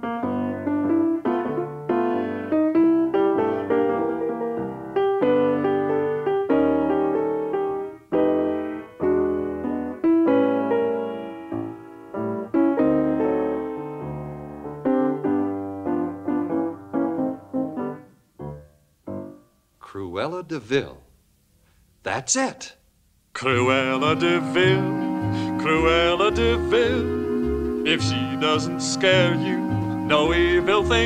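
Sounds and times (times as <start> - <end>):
solo piano music: 0.0 - 19.7, 23.6 - 31.0.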